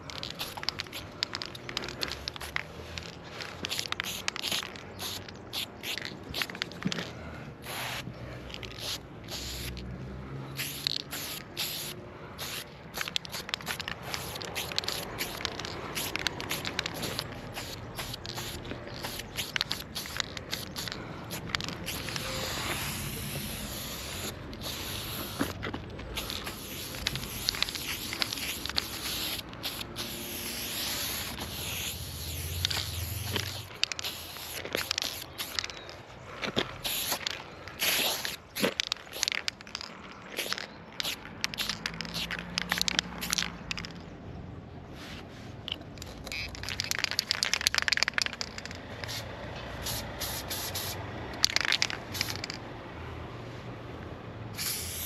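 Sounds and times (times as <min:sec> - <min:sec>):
spray paint can hissing: 0:00.0 - 0:07.0, 0:07.6 - 0:09.9, 0:10.6 - 0:35.8, 0:36.8 - 0:43.9, 0:46.2 - 0:52.6, 0:54.5 - 0:55.0.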